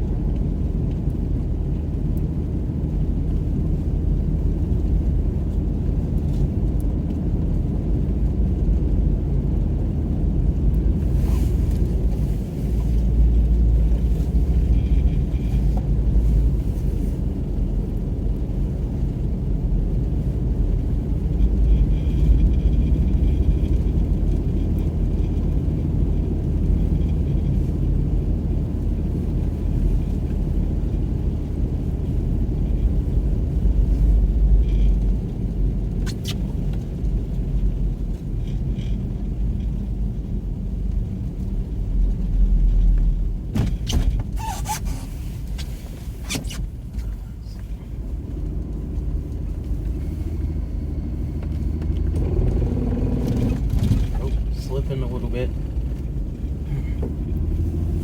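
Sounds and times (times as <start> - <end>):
car engine and tyres rumble: 0.0 - 58.0.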